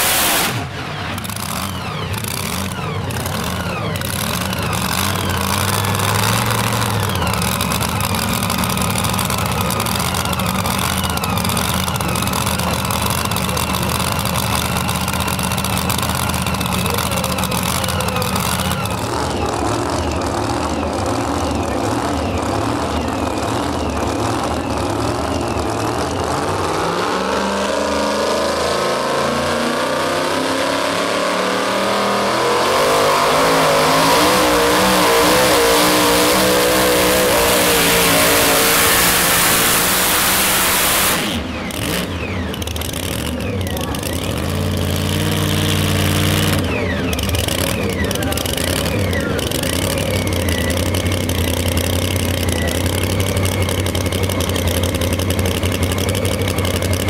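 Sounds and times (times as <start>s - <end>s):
engine revving at full throttle: 0.0s - 57.0s
truck engine idling: 0.5s - 26.8s, 33.2s - 57.0s.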